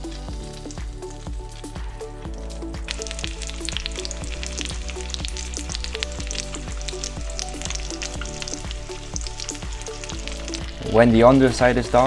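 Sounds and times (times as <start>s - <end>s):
background music: 0.0s - 12.0s
fish sizzling in butter: 0.0s - 12.0s.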